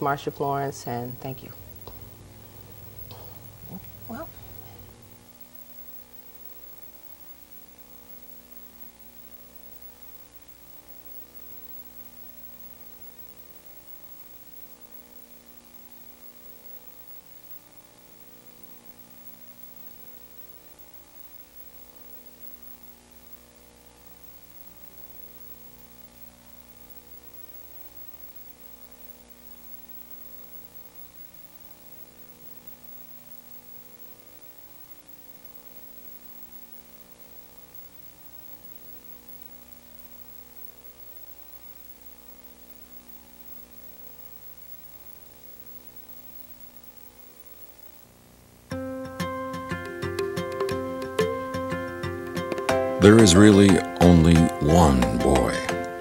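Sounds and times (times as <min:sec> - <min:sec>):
low electrical hum: 0:00.0 - 0:50.4, 0:51.0 - 0:56.0
steady hiss: 0:00.0 - 0:56.0.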